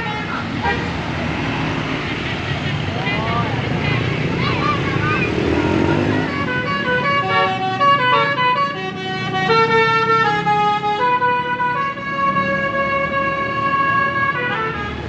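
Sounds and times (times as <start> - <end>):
bus musical horn melody: 0.0 - 4.7, 5.4 - 15.0.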